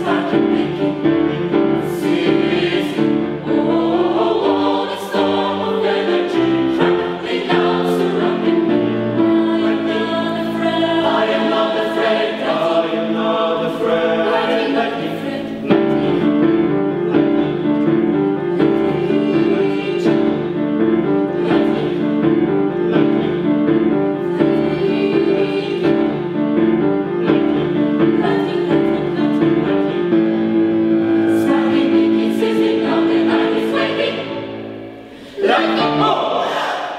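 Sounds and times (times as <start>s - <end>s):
choir singing in harmony: 0.0s - 36.9s.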